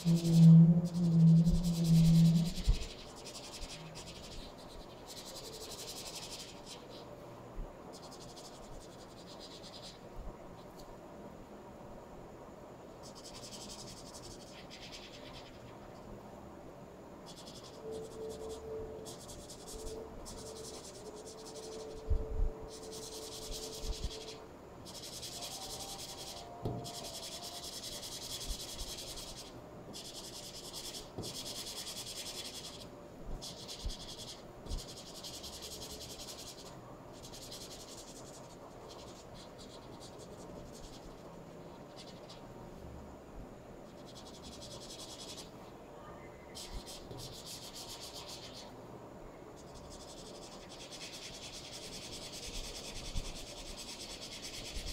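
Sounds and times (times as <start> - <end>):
marker scratching across paper: 0.0 - 7.1, 7.9 - 10.0, 13.0 - 15.7, 17.3 - 22.0, 22.7 - 42.4, 43.9 - 45.5, 46.5 - 48.7, 49.6 - 54.9.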